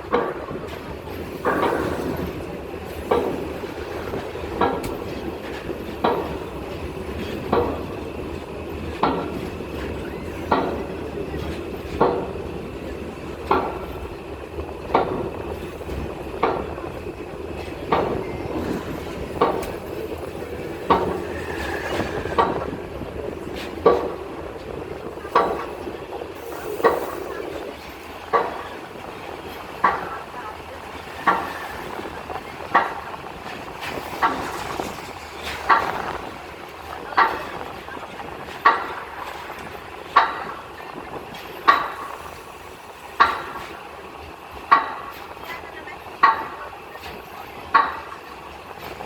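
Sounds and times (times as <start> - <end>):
rolling rumble: 0.0 - 42.1
train wheels clacking: 0.0 - 49.0.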